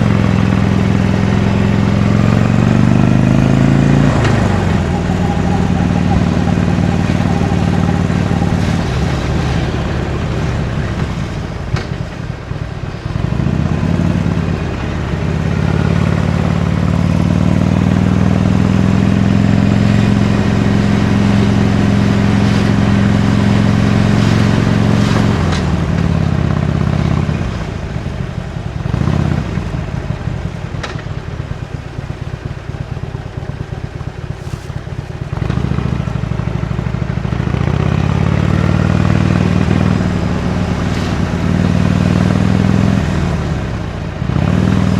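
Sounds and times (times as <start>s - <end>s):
motorcycle engine under way: 0.0s - 44.9s.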